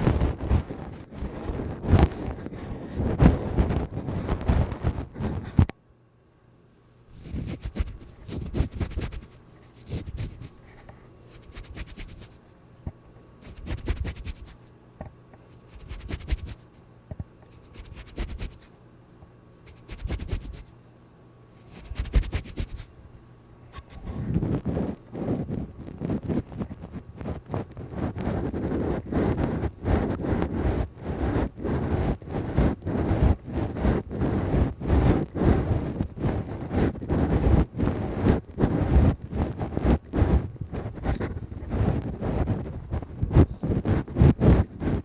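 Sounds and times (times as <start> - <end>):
scratching and rubbing on microphone: 0.0 - 5.7, 7.1 - 12.5, 13.4 - 14.7, 15.5 - 16.8, 17.5 - 18.8, 19.6 - 20.8, 21.6 - 23.0, 23.8 - 45.0.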